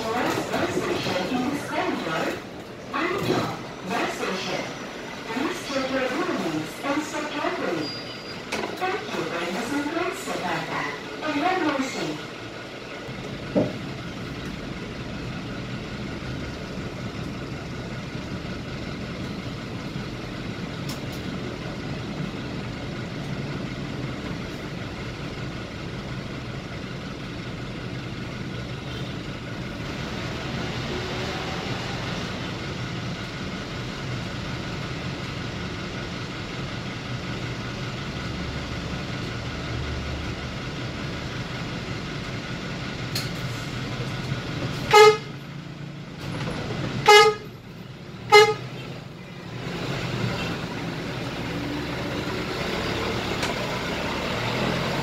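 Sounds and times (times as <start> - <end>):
bus engine idling: 0.0 - 55.0
surrounding traffic: 0.0 - 55.0.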